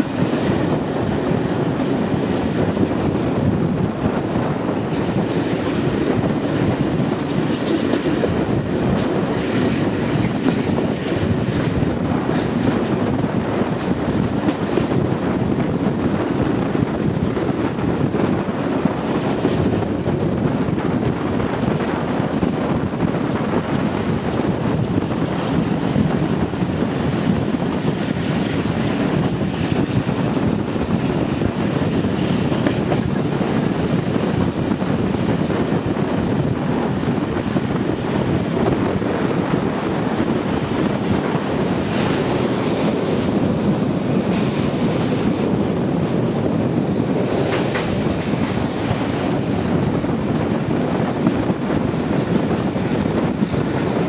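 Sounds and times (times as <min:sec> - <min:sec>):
train wheels rumbling on rails: 0:00.0 - 0:54.0
wind on microphone: 0:00.0 - 0:54.0.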